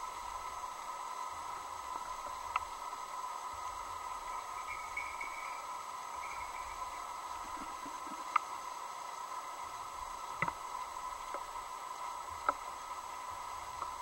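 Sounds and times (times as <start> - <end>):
underwater hum: 0.0 - 14.0.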